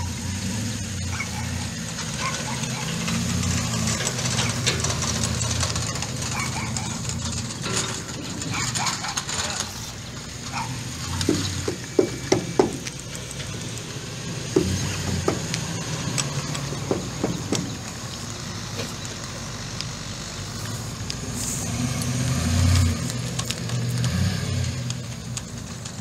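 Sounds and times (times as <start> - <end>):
engine running steadily: 0.0 - 26.0
sharp clicks and knocks: 1.3 - 19.9, 21.9 - 26.0.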